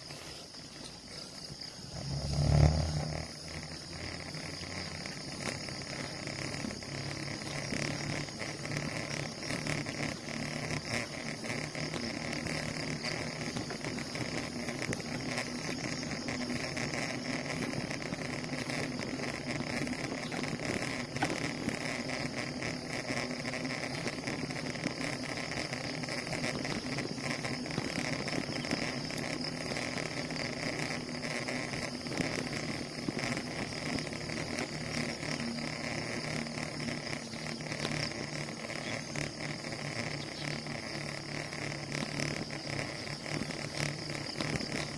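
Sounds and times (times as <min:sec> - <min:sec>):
bicycle tyre noise: 0:00.0 - 0:44.9
wind noise: 0:01.9 - 0:44.9.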